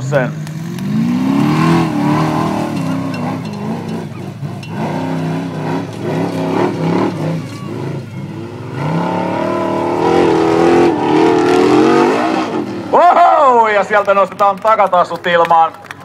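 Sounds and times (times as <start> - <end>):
buggy engine revving hard: 0.0 - 13.6.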